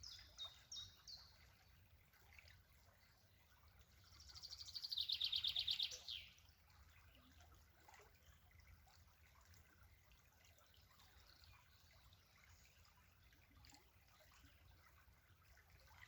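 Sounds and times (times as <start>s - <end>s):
faint outdoor background noise: 0.0s - 16.0s.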